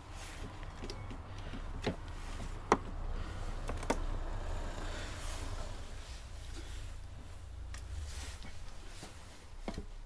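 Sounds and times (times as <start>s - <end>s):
low steady hum: 0.1s - 10.0s.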